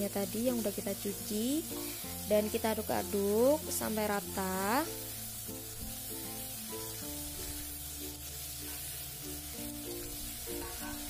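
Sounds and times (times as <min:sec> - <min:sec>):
background music: 0:00.0 - 0:11.0
shellfish sizzling in hot oil: 0:00.0 - 0:11.0.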